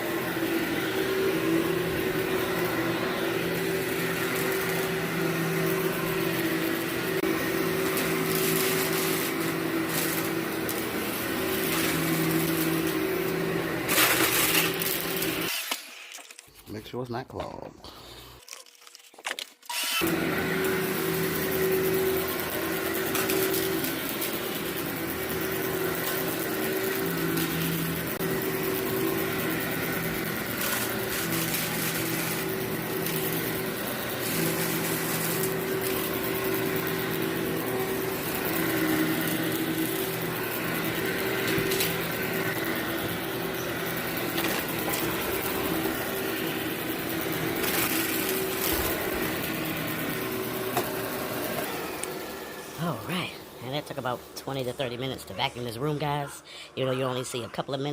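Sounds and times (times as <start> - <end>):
vacuum cleaner running: 0.0 - 16.4, 19.7 - 57.9.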